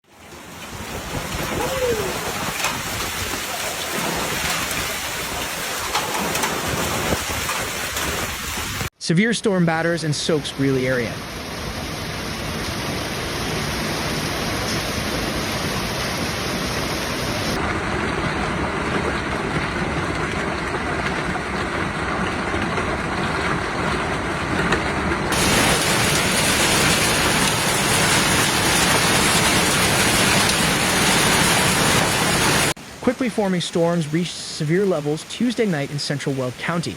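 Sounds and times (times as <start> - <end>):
heavy storm rain: 0.0 - 8.9, 9.9 - 36.9.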